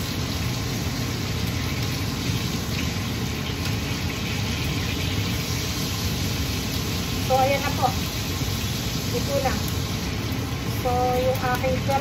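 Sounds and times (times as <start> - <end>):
faint frying: 0.0 - 12.0
range hood fan droning: 0.0 - 12.0.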